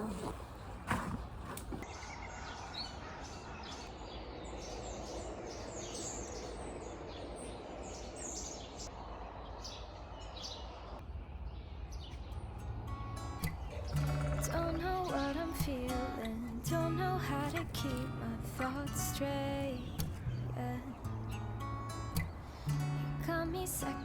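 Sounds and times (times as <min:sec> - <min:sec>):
outdoor background noise: 0:00.0 - 0:24.0
small birds chirping: 0:00.0 - 0:24.0.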